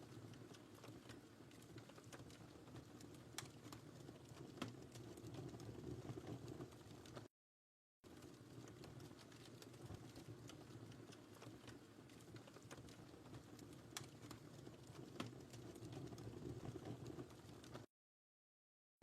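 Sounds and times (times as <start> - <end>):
wood fire crackling: 0.0 - 7.3, 8.1 - 17.9.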